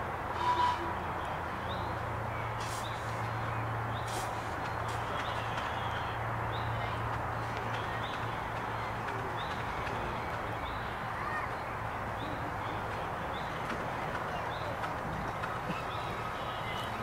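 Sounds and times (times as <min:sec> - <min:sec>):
miniature steam locomotive running: 0:00.0 - 0:00.9, 0:04.0 - 0:17.0
small birds chirping: 0:01.2 - 0:17.0.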